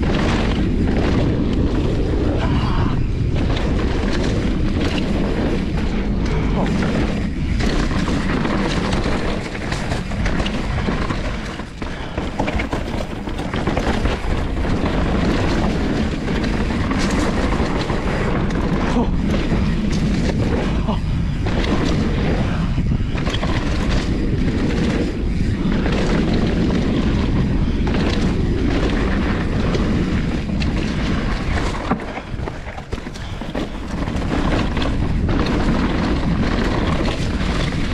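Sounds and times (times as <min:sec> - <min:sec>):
bike rattling over bumps: 0:00.0 - 0:37.9
tyres on dirt and rock: 0:00.0 - 0:37.9
wind rumble on microphone: 0:00.0 - 0:37.9.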